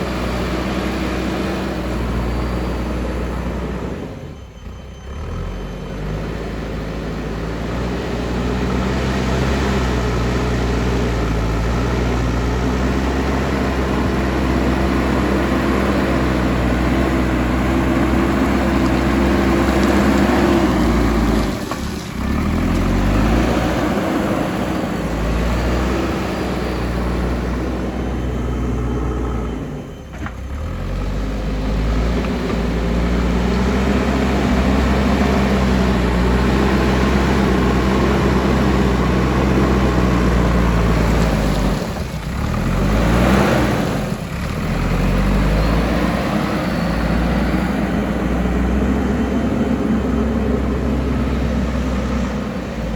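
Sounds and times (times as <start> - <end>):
diesel engine under load: 0.0 - 52.9.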